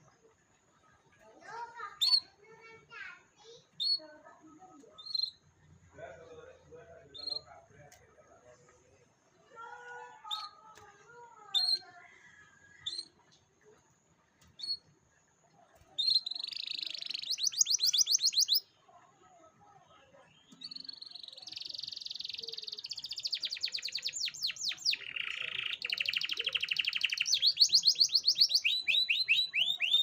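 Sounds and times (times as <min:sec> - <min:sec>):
canary chirps and trills: 0:00.0 - 0:30.0.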